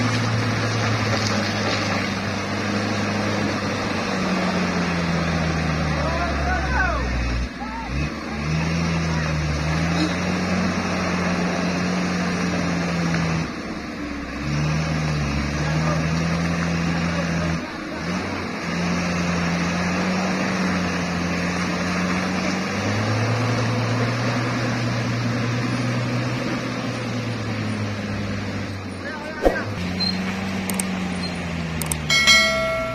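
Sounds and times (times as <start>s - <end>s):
truck diesel engine revving: 0.0s - 32.9s.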